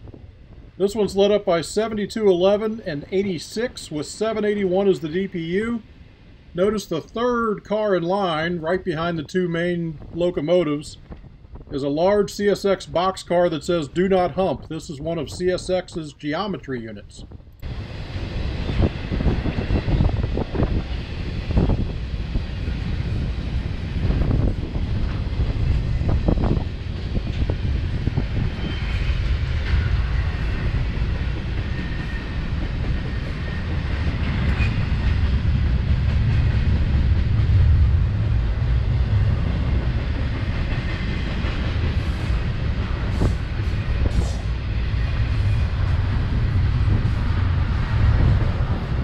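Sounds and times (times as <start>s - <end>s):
freight train rumbling past: 0.0s - 49.0s.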